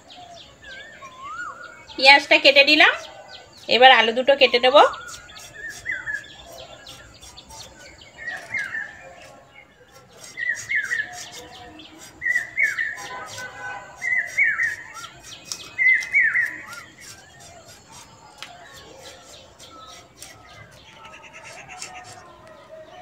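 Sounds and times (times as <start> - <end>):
songbird chirping: 0.0 - 23.0.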